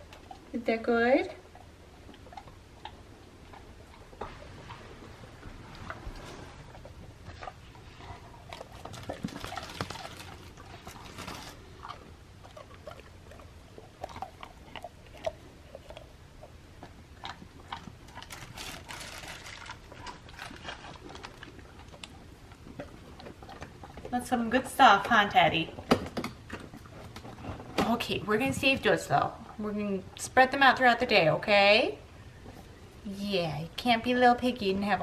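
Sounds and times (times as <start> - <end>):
puppy chewing treats: 0.0 - 30.6.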